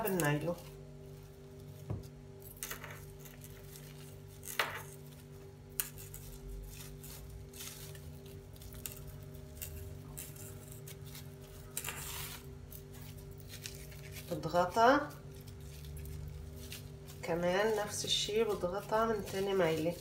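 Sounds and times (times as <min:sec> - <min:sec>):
plastic film crinkling: 0:00.0 - 0:20.0
steady low hum: 0:00.0 - 0:20.0.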